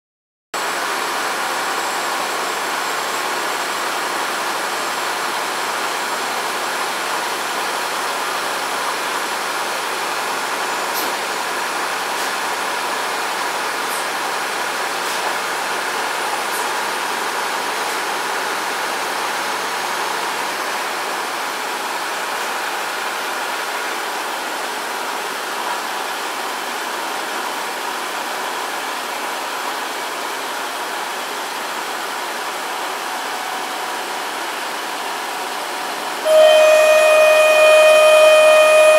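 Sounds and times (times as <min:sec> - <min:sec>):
train wheels on rails: 0:00.6 - 0:38.9.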